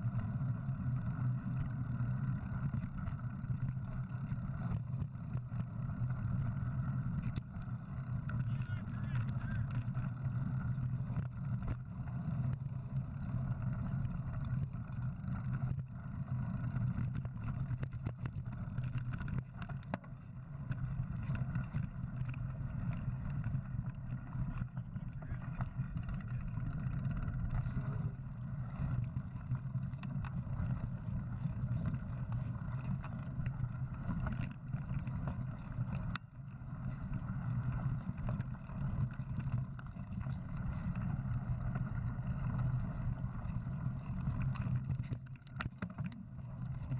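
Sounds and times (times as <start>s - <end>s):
bike tires rolling rumble: 0.0s - 46.9s
muffled wind: 0.0s - 46.9s.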